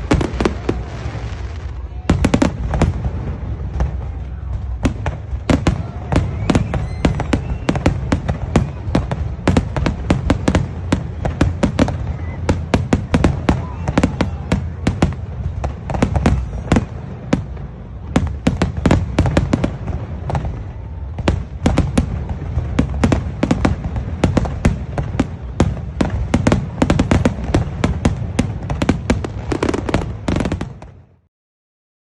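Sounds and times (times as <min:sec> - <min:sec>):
fireworks cracks and bangs: 0:00.0 - 0:31.3.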